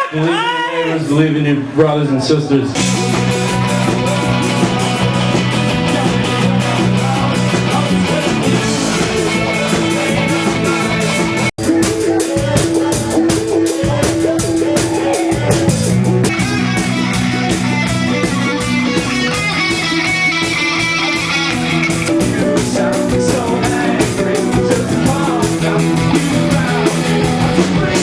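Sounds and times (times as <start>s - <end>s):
bass guitar: 2.7s - 28.0s
drum kit beating: 2.7s - 28.0s
electric guitar: 2.8s - 28.0s.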